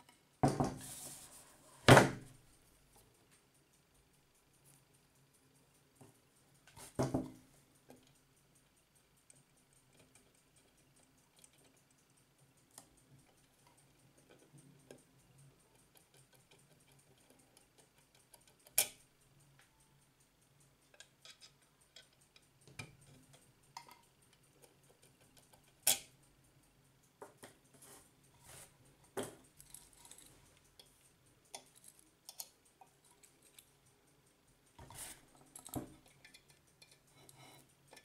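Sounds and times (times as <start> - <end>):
sharp clicks of clock hands: 2.2 - 38.0
clock ticking fast: 2.3 - 38.0.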